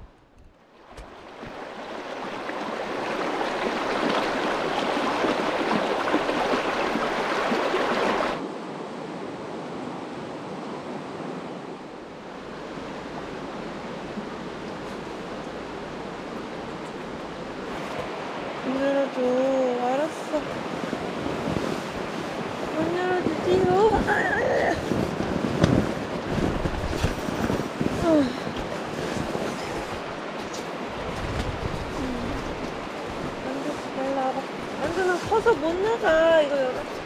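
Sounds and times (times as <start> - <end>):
mountain stream rushing: 0.6 - 37.0.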